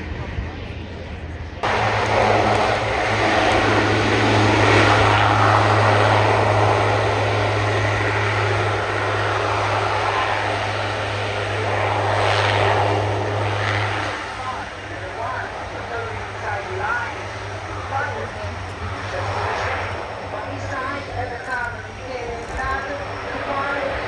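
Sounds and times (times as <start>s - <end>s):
aircraft engine drone: 0.0s - 24.0s
low hum: 0.0s - 24.0s.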